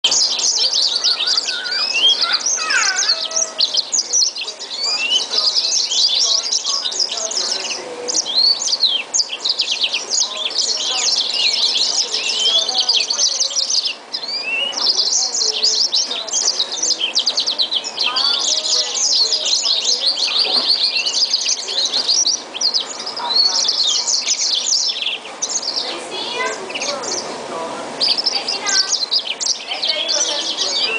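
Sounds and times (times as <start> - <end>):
finch twittering song: 0.0 - 30.9.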